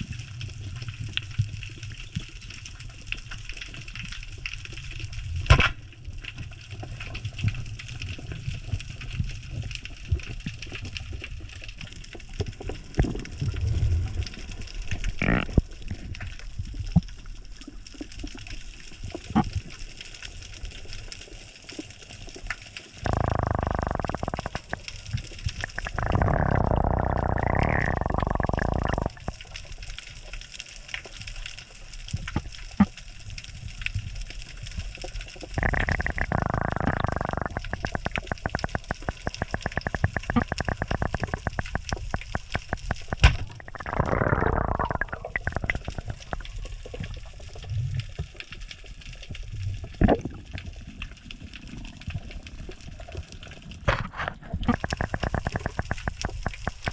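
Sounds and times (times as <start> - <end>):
water gushing and sloshing: 0.0 - 20.0, 20.6 - 30.2, 31.6 - 56.9
fast regular ticks: 6.3 - 53.7, 54.6 - 56.9.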